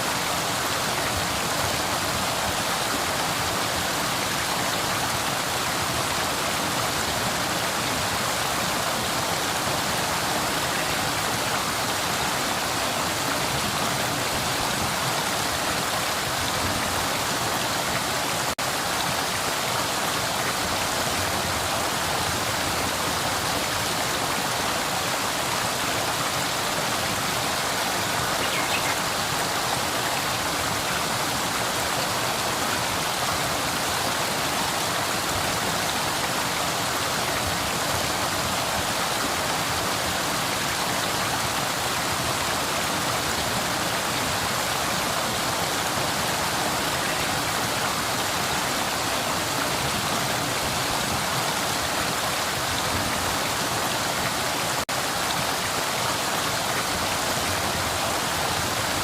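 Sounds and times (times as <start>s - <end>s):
river water flowing over rocks: 0.0s - 59.0s.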